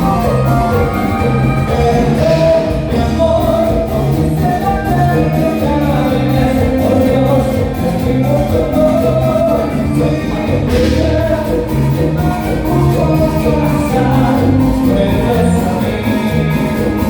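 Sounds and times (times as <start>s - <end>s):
live cumbia band with vocals: 0.0s - 17.0s.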